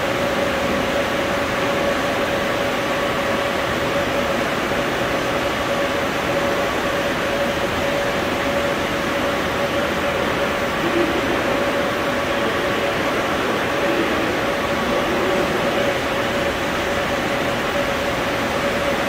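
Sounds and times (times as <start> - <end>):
continuous mid-pitched tone: 0.0 - 19.0
metro platform hum and hiss: 0.0 - 19.0.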